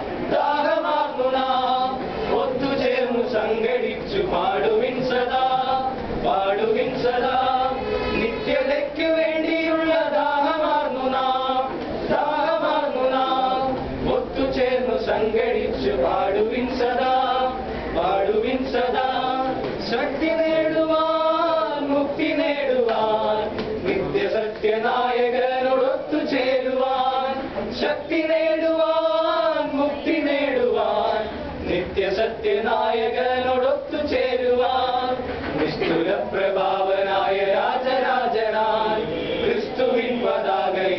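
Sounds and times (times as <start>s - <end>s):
men singing unaccompanied: 0.0s - 40.9s.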